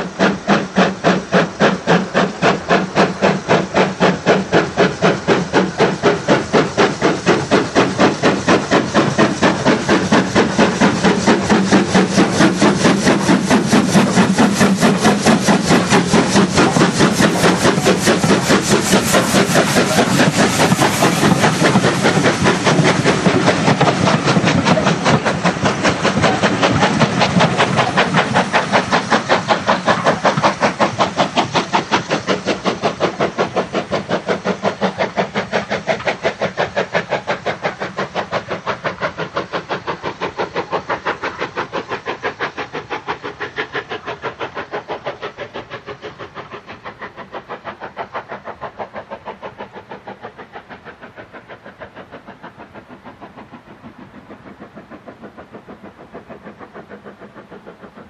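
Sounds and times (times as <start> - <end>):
steam hiss: 0.0 - 58.0
steam locomotive chuffing: 0.0 - 58.0.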